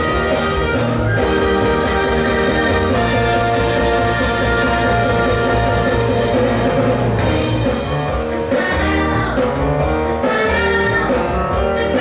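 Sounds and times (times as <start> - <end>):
band playing dance music: 0.0 - 12.0.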